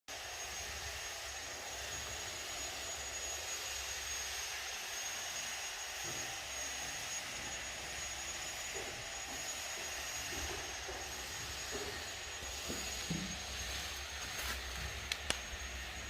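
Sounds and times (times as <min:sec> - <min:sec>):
high-pitched whine: 0:00.1 - 0:16.0.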